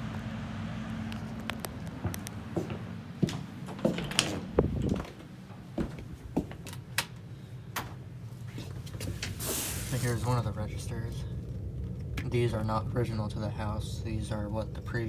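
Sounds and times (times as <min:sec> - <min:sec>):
gas furnace humming: 0:00.0 - 0:15.0.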